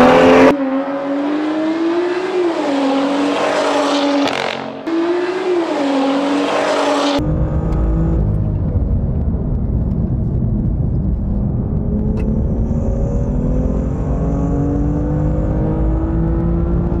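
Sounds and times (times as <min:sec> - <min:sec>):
car engine running: 0:01.6 - 0:16.6.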